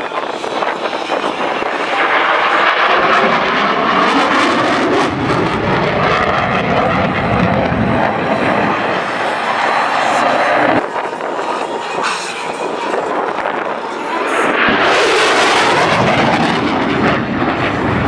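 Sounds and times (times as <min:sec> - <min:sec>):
aircraft engine flying past: 0:00.0 - 0:18.0.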